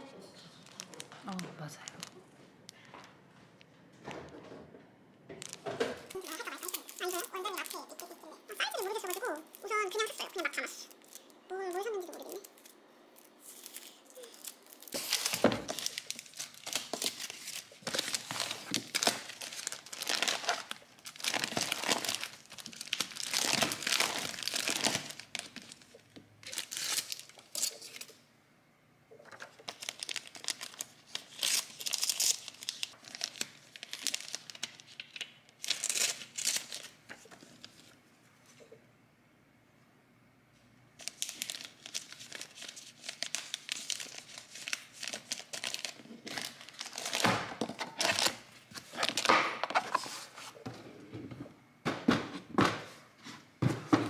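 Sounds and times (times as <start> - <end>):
plastic packaging crinkling: 0.4 - 2.9, 5.3 - 28.1, 29.2 - 37.9, 41.0 - 50.6.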